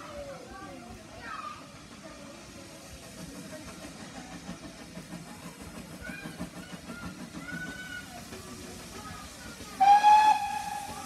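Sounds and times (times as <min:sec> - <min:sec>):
train rumbling on rails: 0:00.0 - 0:11.0
steam locomotive exhaust beats: 0:00.1 - 0:11.0.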